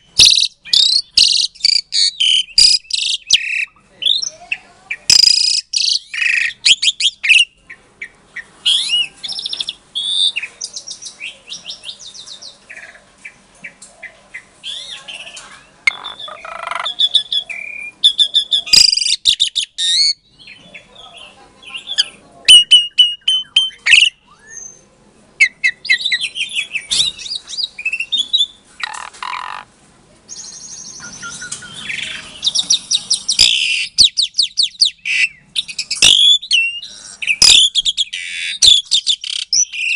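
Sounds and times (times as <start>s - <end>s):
starling singing: 0.0s - 29.7s, 30.3s - 39.9s.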